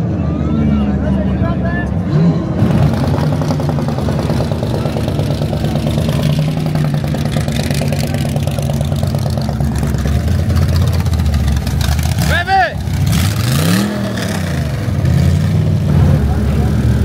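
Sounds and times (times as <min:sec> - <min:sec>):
car engine idling: 0:00.8 - 0:17.0.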